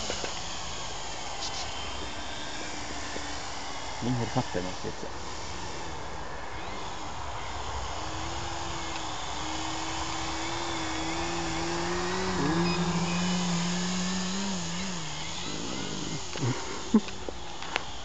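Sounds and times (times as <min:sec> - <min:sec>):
model plane motor humming: 0:00.0 - 0:18.0.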